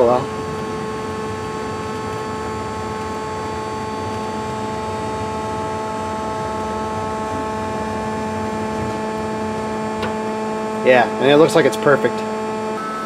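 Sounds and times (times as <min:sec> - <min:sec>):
lathe electric hum: 0:00.0 - 0:13.0
machine whining tones: 0:00.0 - 0:13.0.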